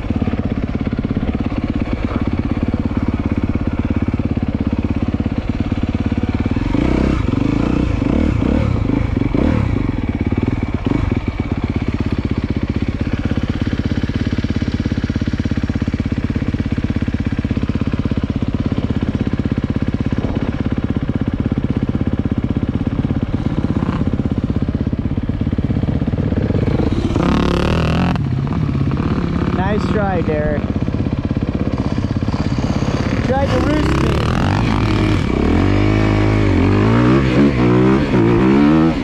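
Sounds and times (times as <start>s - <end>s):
dirt bike engine: 0.0s - 39.0s.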